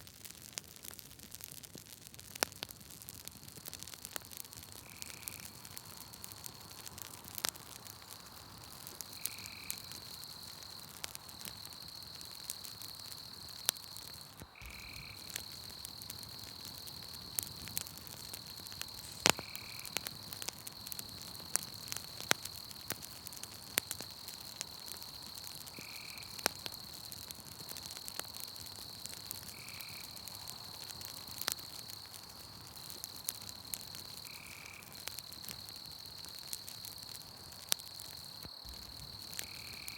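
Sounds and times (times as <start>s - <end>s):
campfire crackling and popping: 0.0s - 39.9s
night insects trilling: 3.6s - 39.9s.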